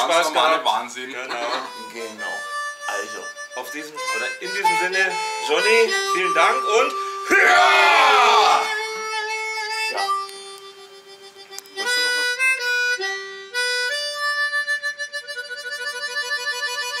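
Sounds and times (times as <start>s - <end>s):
melody of long held notes: 1.3s - 17.0s.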